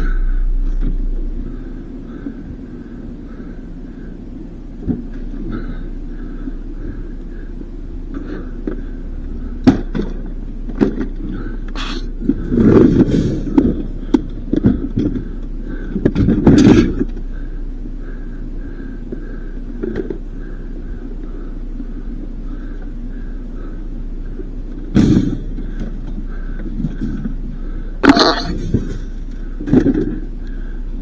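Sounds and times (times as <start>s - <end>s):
rattling and bumping: 0.0s - 18.2s, 22.6s - 31.0s
vehicle driving rumble: 0.0s - 31.0s.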